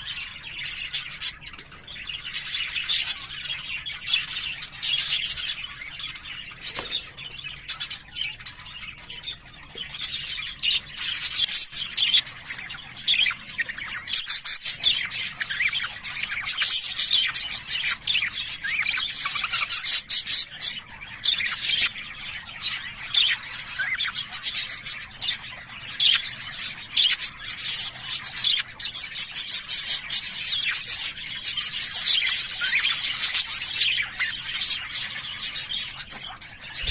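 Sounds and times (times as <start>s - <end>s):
budgerigars chattering: 0.0s - 36.9s.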